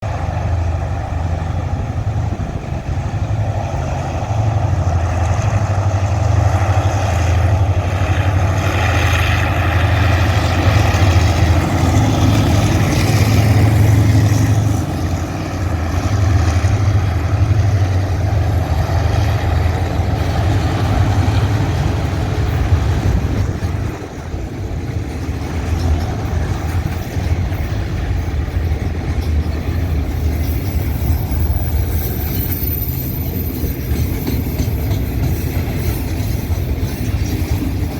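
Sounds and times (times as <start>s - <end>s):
diesel locomotive engine rumbling: 0.0s - 37.9s.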